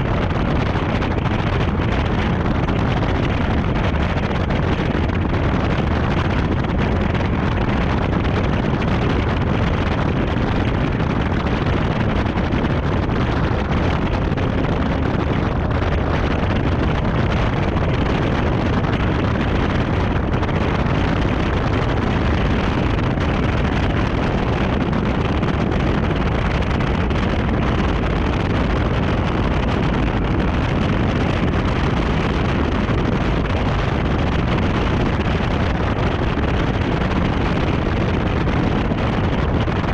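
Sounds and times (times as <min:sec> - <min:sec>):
wind rush buffeting camera: 0:00.0 - 0:39.9.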